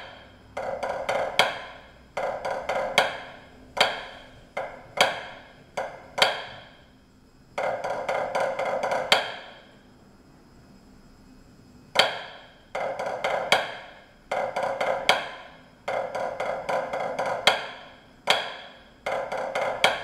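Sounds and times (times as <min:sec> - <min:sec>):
drumsticks on practice pad: 0:00.0 - 0:07.0, 0:07.6 - 0:09.8, 0:12.0 - 0:20.0.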